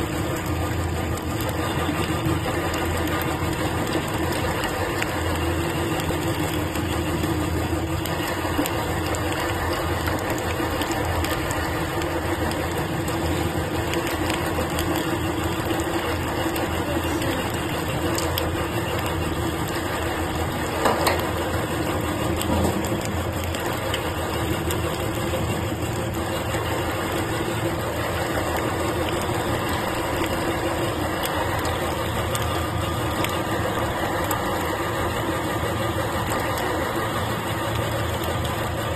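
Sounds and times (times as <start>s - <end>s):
meat grinder motor humming: 0.0s - 38.9s.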